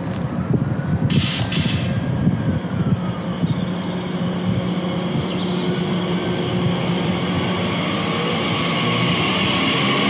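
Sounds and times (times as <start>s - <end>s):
train rumbling and humming: 0.0s - 10.0s.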